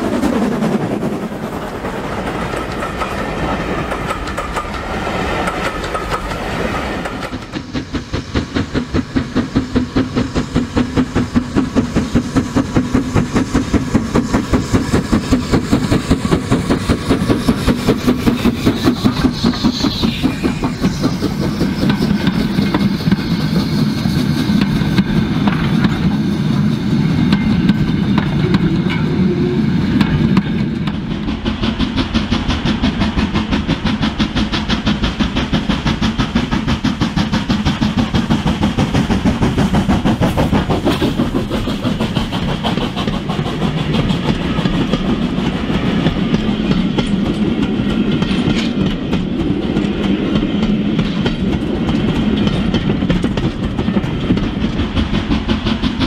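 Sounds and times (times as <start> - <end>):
model train wheels clicking: 0.5 - 29.1, 29.9 - 56.0.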